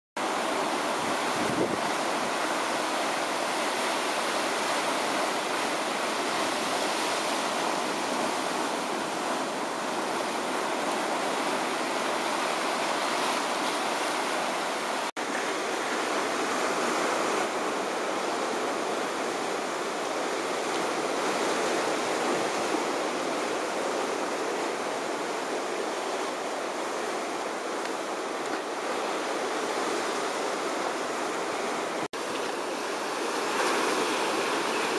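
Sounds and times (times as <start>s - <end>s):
waves breaking on rocky shore: 0.2s - 34.9s.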